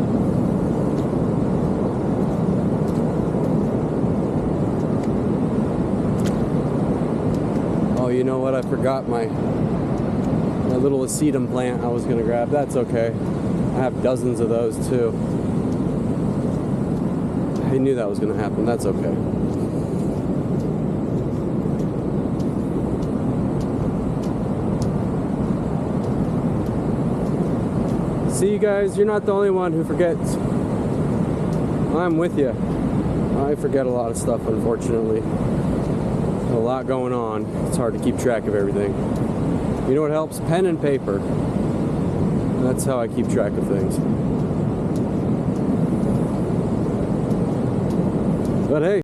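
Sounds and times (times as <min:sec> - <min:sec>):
ocean surf roaring: 0:00.0 - 0:49.0.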